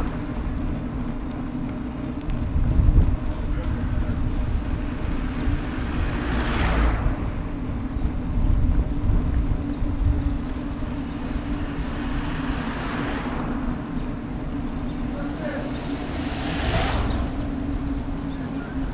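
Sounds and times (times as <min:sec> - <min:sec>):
road and wind noise: 0:00.0 - 0:18.9.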